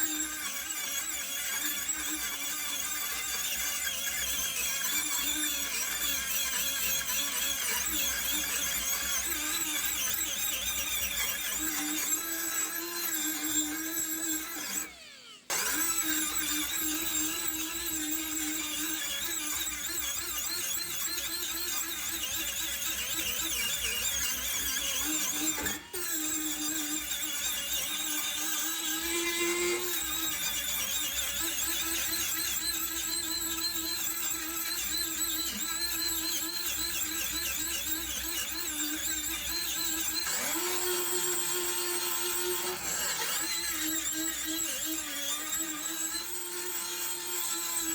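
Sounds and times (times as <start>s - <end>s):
power tool whining on metal: 0.0s - 47.9s.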